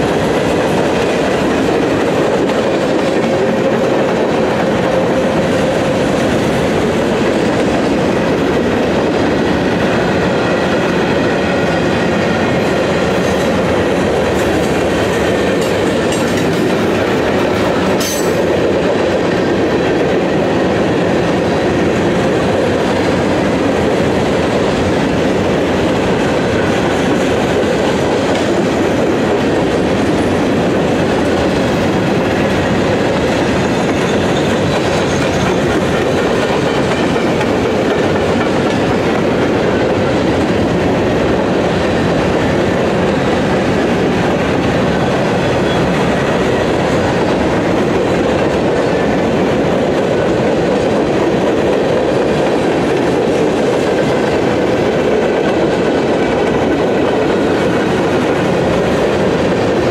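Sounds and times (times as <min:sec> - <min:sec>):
freight train wheels clacking: 0:00.0 - 0:59.9.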